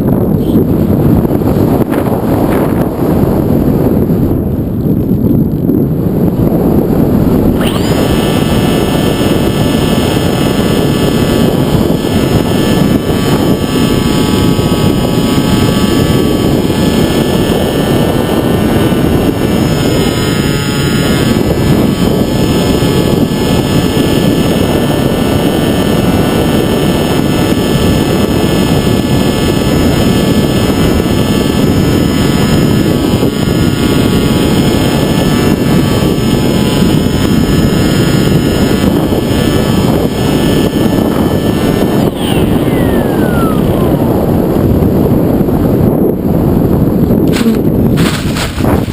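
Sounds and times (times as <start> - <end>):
electric motor and propeller whining: 0.0 - 48.9
wind rushing: 0.0 - 48.9.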